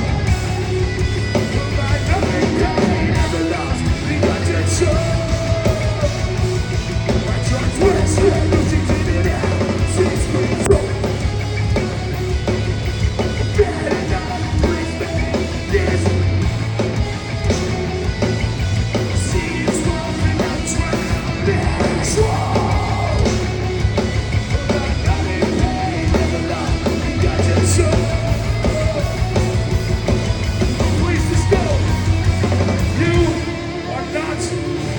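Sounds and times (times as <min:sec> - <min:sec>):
punk band playing: 0:00.0 - 0:34.9.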